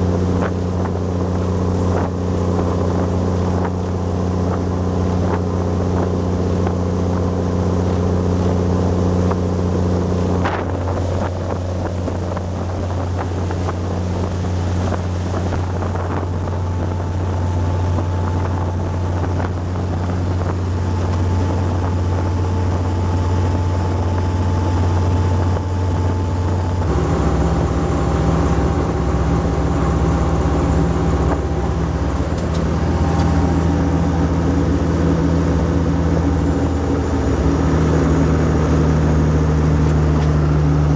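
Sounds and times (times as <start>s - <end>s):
boat diesel engine drone: 0.0s - 40.9s
wind on microphone: 0.0s - 40.9s.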